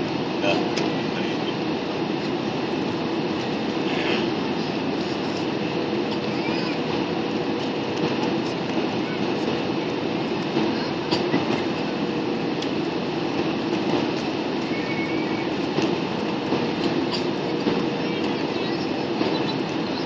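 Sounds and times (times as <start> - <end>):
airliner engine and airflow rush: 0.0 - 20.0
constant hum: 0.0 - 20.0.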